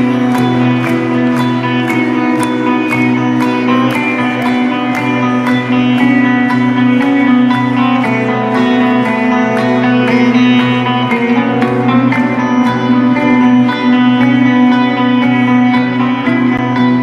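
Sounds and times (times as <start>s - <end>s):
guitar music with steady beat: 0.0s - 17.0s.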